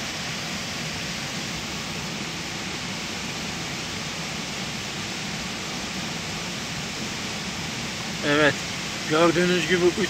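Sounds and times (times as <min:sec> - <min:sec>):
water washing over gravel: 0:00.0 - 0:10.0.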